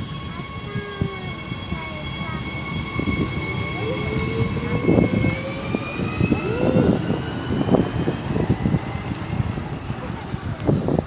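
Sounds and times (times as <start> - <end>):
high motor whine: 0.0 - 11.0
train rumbling on track: 0.0 - 11.0.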